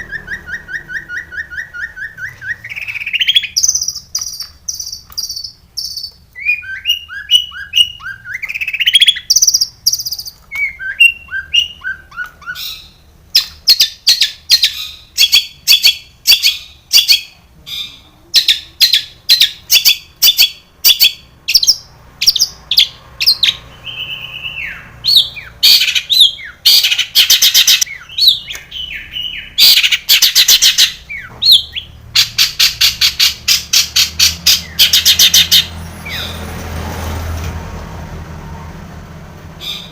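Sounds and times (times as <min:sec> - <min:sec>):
shrike singing: 0:00.0 - 0:36.4.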